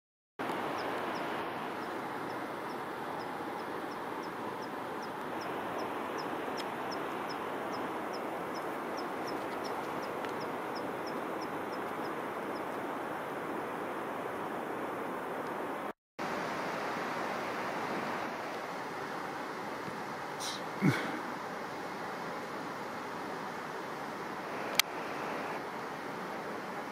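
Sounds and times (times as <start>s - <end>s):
steady rushing noise: 0.4s - 26.9s.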